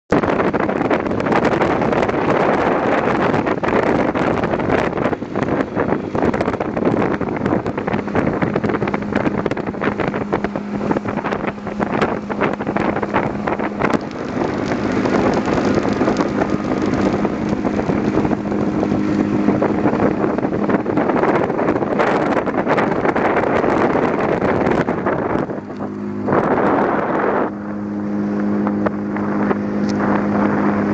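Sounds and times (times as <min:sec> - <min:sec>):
higher engine hum: 0:00.1 - 0:30.9
motorboat engine hum: 0:00.1 - 0:30.9
wind buffeting microphone: 0:00.1 - 0:30.9.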